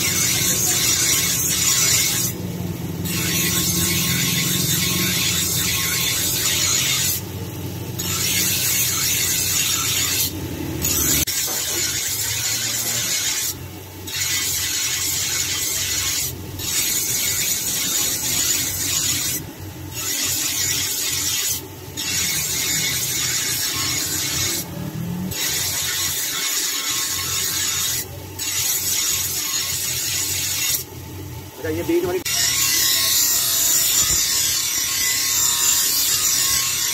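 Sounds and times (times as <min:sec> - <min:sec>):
bench grinder humming: 0:00.0 - 0:30.9, 0:32.0 - 0:36.9
steel grinding on a wheel: 0:00.0 - 0:30.9, 0:31.7 - 0:36.9.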